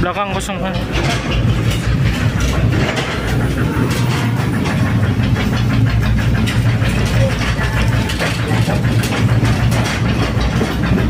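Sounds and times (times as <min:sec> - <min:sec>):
rail cart engine humming: 0:00.0 - 0:11.0
wheels and body clattering: 0:00.0 - 0:11.0.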